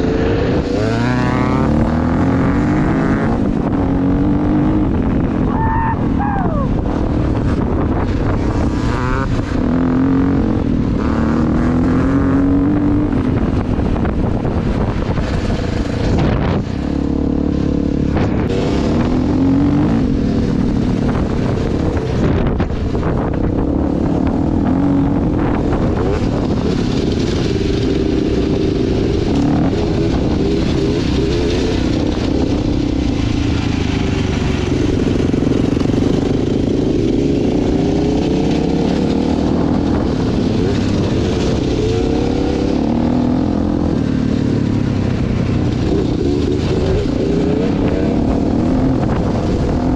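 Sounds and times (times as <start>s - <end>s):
dirt bike engine revving: 0.0s - 49.9s
wind and road noise: 0.0s - 49.9s.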